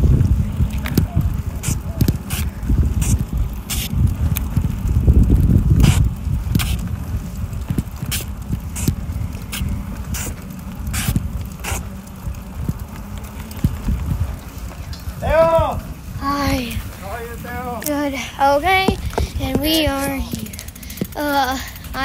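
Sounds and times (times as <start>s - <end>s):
bicycle rattling clicks: 0.0s - 22.0s
wind on microphone: 0.0s - 22.0s.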